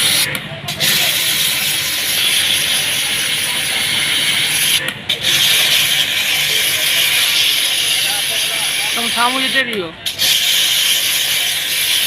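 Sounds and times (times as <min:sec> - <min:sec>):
high-pressure water spray hissing: 0:00.0 - 0:12.0.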